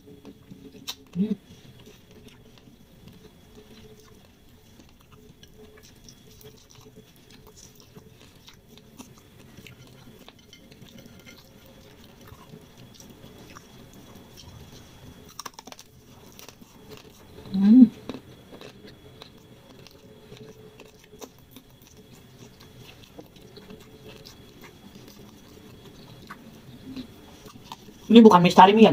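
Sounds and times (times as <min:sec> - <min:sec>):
crunchy chewing: 0:00.0 - 0:28.5.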